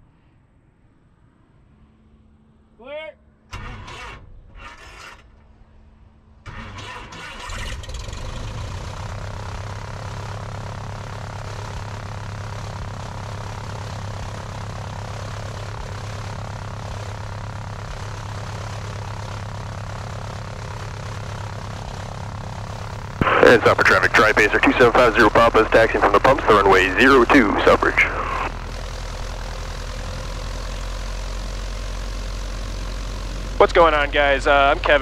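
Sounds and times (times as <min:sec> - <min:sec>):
aircraft engine starting and idling: 0:03.5 - 0:35.0.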